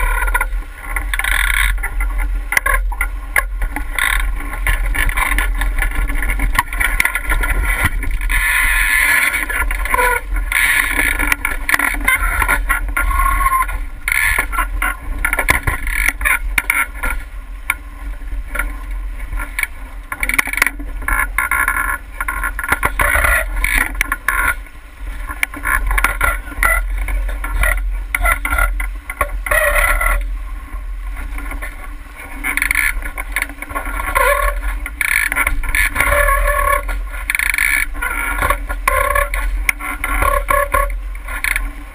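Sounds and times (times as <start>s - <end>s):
low engine rumble: 0.0s - 41.9s
water rushing and splashing: 0.0s - 41.9s.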